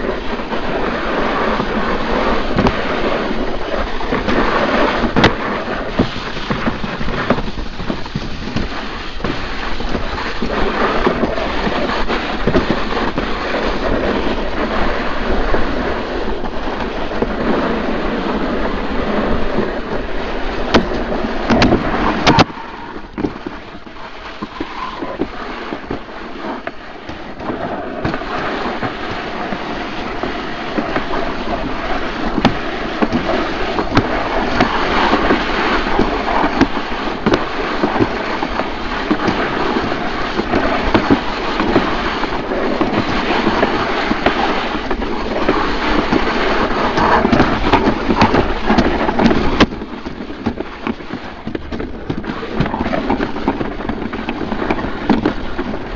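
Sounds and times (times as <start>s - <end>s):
sled scraping down concrete trough: 0.0s - 55.9s.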